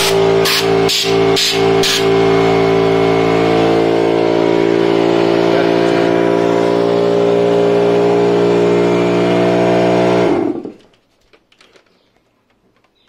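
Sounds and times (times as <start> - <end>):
air compressor running: 0.0 - 10.9.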